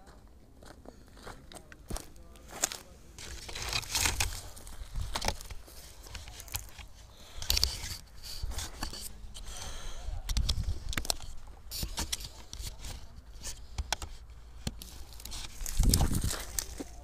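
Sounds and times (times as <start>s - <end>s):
rustling of dry cane and grass: 1.6s - 17.0s.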